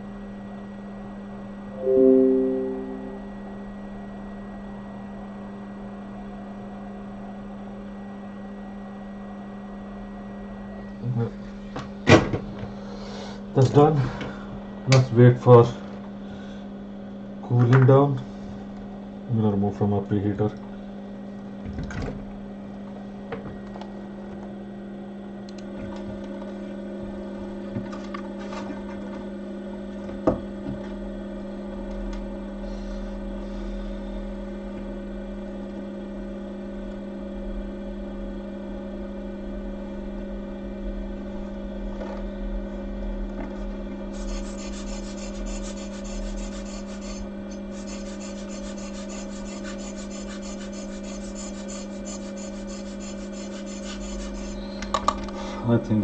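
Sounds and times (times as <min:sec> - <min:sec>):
electrical equipment hum: 0:00.0 - 0:56.0.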